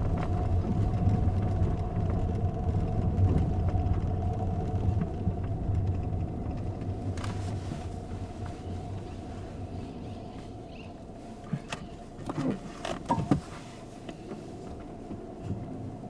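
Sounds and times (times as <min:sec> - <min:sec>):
car interior low rumble: 0:00.0 - 0:16.0
faint constant hum: 0:00.0 - 0:16.0.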